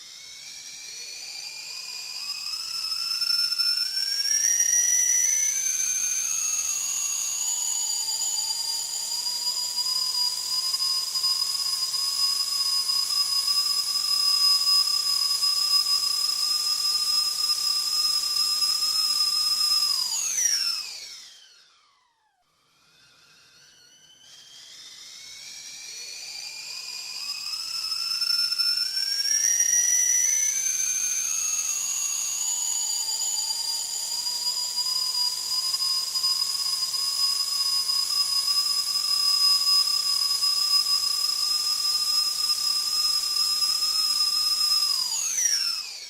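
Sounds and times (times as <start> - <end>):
whistling kettle: 0.0 - 46.0.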